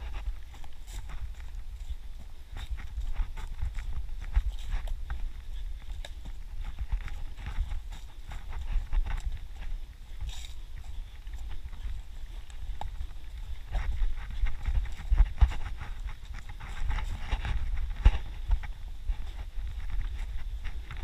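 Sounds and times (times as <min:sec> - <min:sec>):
running footsteps on dirt: 0:00.0 - 0:21.0
wind rumble on microphone: 0:00.0 - 0:21.0.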